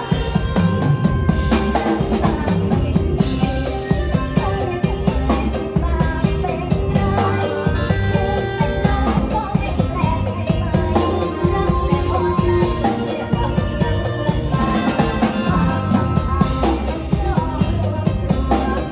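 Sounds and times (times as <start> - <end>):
bass: 0.0 - 18.9
drum kit: 0.0 - 18.9
electric keyboard melody: 0.0 - 18.9
live band music: 0.0 - 18.9.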